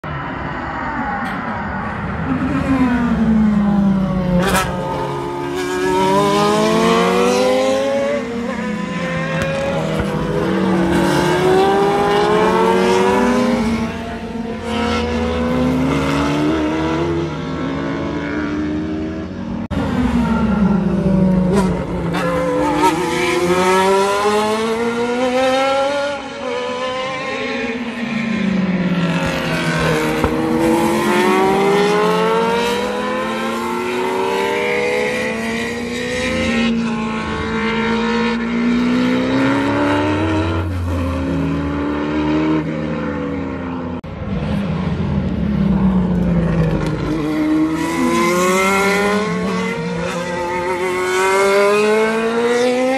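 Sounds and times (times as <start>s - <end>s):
race car engines accelerating: 0.0s - 52.9s.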